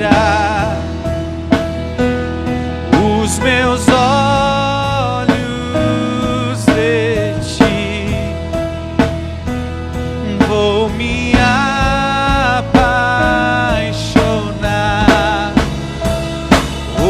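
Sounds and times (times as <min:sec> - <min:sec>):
band playing: 0:00.0 - 0:17.0
steady drum beat: 0:00.0 - 0:17.0.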